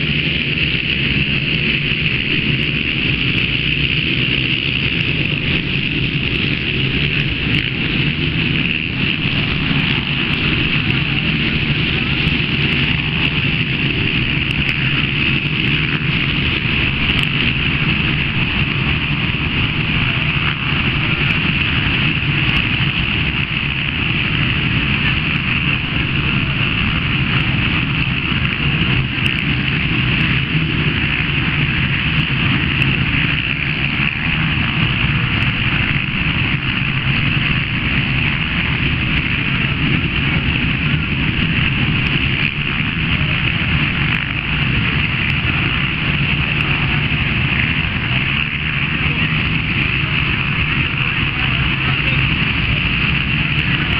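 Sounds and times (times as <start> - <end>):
quad bike engines running: 0.0 - 53.9.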